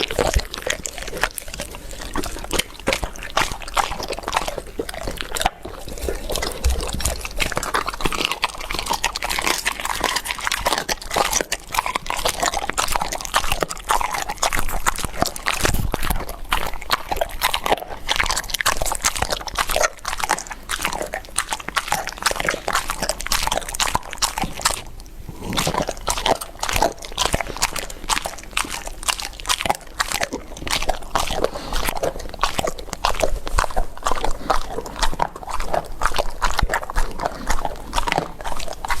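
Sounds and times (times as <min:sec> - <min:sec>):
dogs crunching and chewing food: 0:00.0 - 0:39.0.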